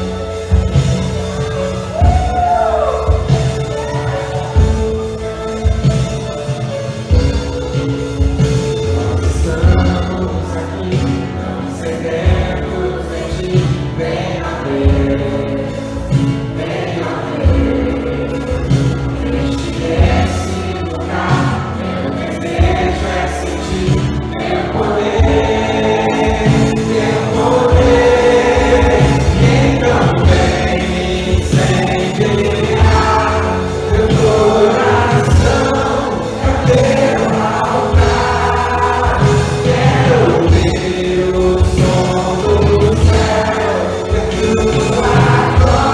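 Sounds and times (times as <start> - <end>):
instrumental backing with bass line: 0.0 - 45.9
choir singing held notes: 8.7 - 45.9.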